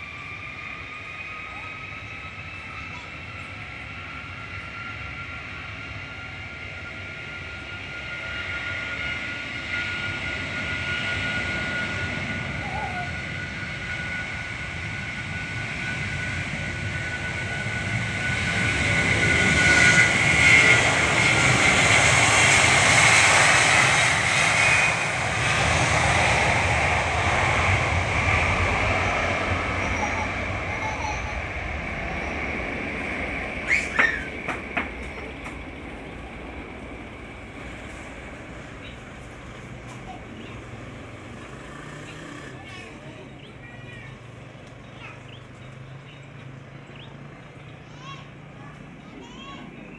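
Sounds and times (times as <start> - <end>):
jet engines passing: 0.0 - 49.9.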